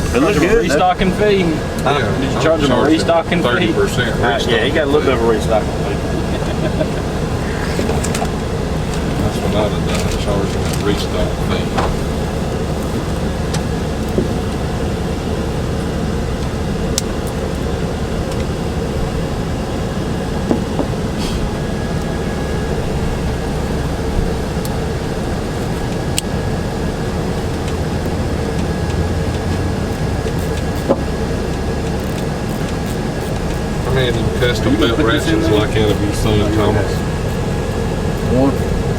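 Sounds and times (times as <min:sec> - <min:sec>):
faint hum: 0:00.0 - 0:38.9
low machine drone: 0:00.0 - 0:38.9.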